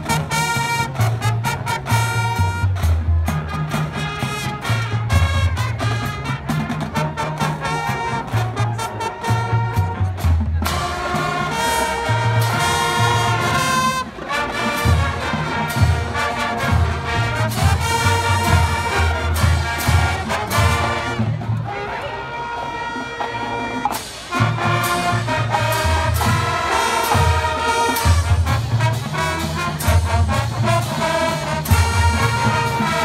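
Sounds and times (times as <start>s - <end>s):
low brass notes: 0.0s - 33.0s
marching band playing: 0.0s - 33.0s
trumpets and trombones melody: 0.0s - 33.0s.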